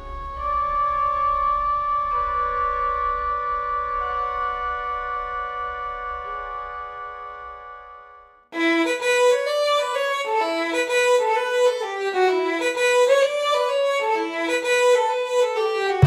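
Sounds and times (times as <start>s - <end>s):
violin melody: 2.2s - 16.0s.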